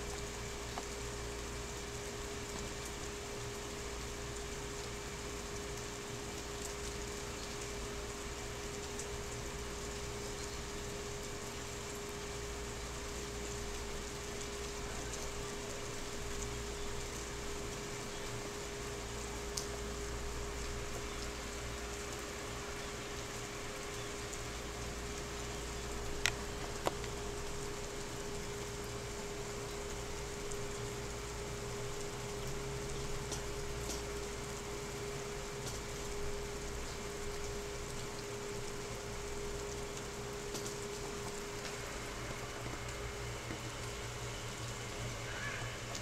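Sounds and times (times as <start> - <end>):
faint steady hum: 0.0 - 46.0
rain falling: 0.0 - 46.0
water drips ticking: 0.0 - 46.0.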